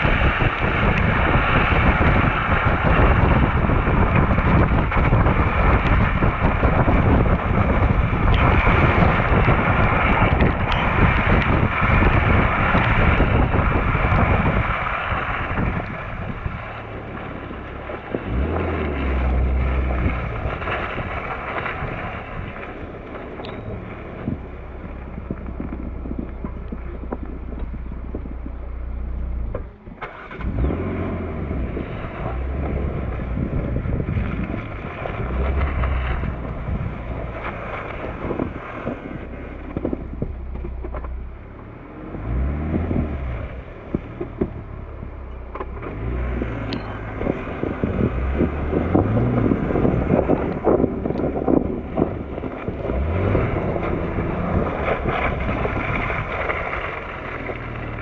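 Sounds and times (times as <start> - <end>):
car engine revving: 0.0 - 58.0
tyres crunching on snow: 0.0 - 58.0
wind on microphone: 0.0 - 58.0.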